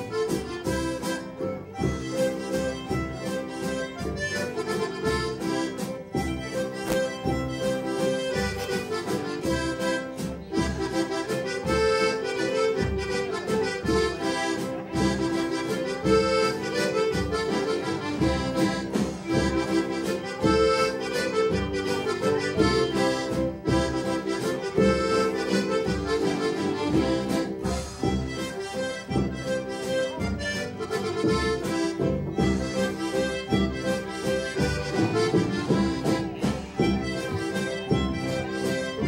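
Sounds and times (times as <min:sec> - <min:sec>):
accordion melody: 0:00.0 - 0:39.0
drums keeping a beat: 0:00.0 - 0:39.0
fiddle: 0:00.0 - 0:39.0
guitar: 0:00.0 - 0:39.0
upright bass: 0:00.0 - 0:39.0.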